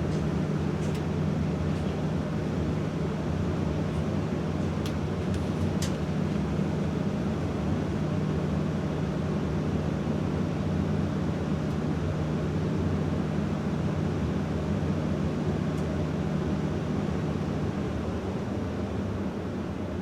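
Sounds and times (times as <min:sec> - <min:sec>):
furnace blower fan running: 0:00.0 - 0:20.0.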